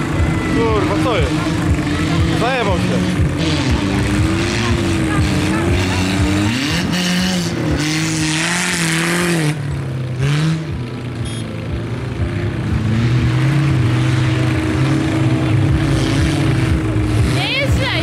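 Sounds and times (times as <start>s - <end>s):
vehicle engines revving: 0.0s - 18.0s.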